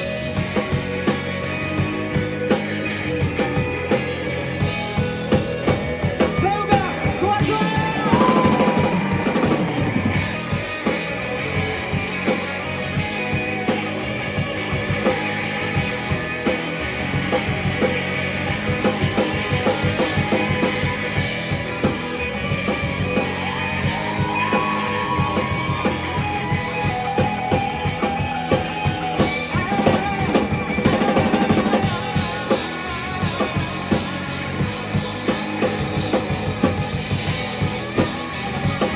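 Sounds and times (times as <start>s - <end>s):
busy drum kit: 0.0s - 38.9s
rock band playing: 0.0s - 38.9s.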